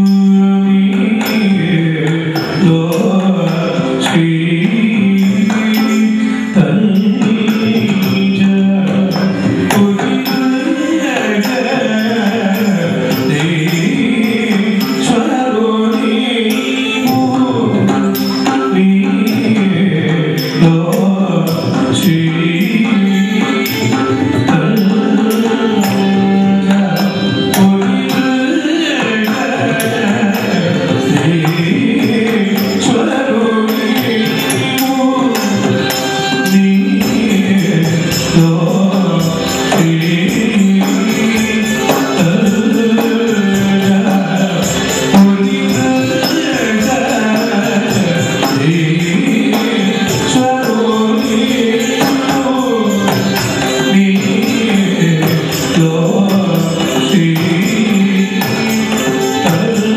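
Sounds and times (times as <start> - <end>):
hand drum: 0.0 - 59.9
person singing: 0.0 - 59.9
small cymbals striking rhythm: 0.0 - 59.9
violin: 0.0 - 59.9.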